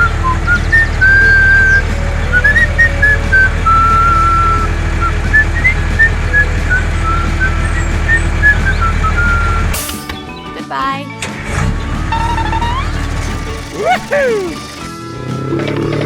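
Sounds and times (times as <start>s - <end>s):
whistled melody: 0.0s - 10.7s, 11.5s - 16.0s.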